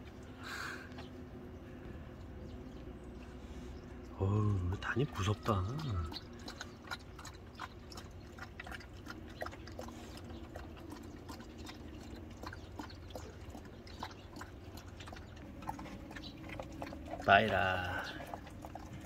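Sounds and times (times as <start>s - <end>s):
dog lapping and chewing: 2.2s - 19.0s.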